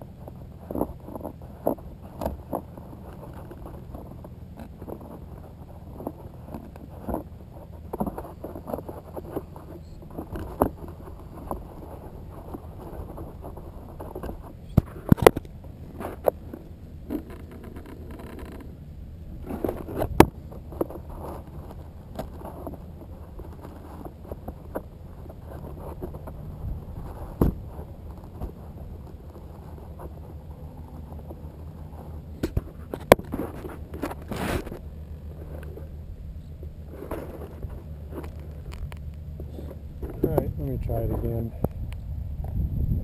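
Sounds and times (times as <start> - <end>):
steady low rumble: 0.0 - 43.0
camera handling knocks and scrapes: 0.2 - 18.8, 19.4 - 35.9, 36.5 - 40.5.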